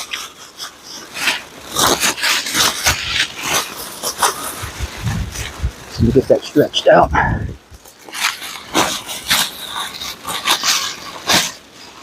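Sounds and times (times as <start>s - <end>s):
plastic tent crinkling and rustling: 0.0s - 12.0s.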